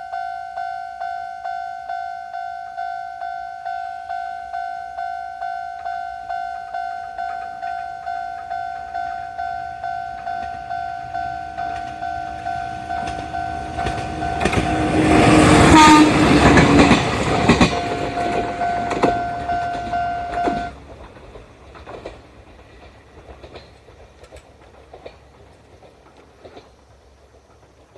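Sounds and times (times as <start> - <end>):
train passing over crossing: 0.0 - 27.9.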